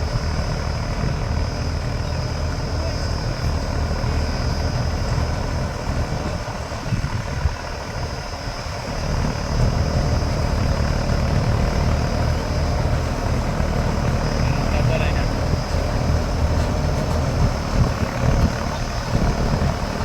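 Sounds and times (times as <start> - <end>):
combine harvester engine drone: 0.0 - 20.0
high whine: 0.0 - 20.0.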